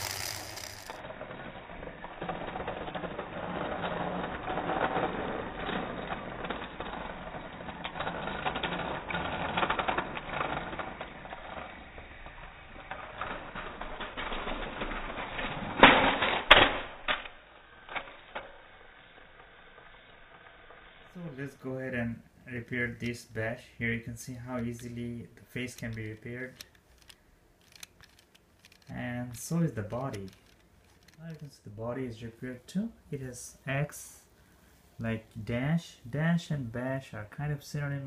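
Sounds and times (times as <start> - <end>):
toy train motor clicking rattle: 0.0 - 32.2.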